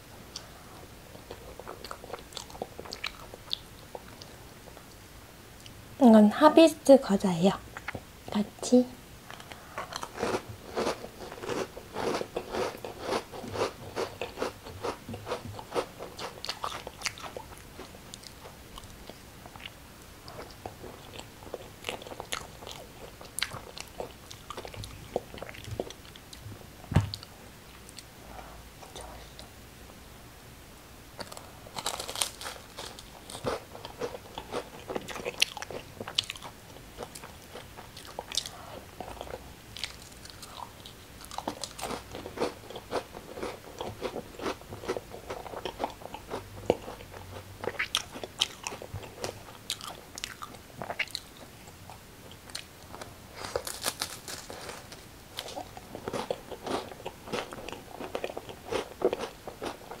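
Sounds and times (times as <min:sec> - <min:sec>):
crackers being chewed: 0:01.1 - 0:05.0, 0:09.3 - 0:26.4, 0:31.2 - 1:00.0.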